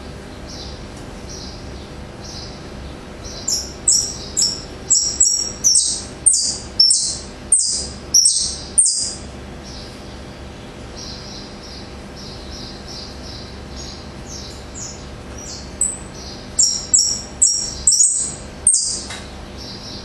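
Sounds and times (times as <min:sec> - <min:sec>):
songbird singing: 0:00.3 - 0:20.0.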